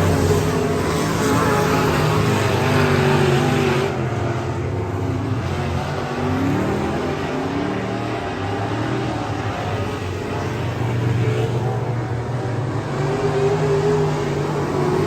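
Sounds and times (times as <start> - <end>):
race car engine: 0.0 - 15.0.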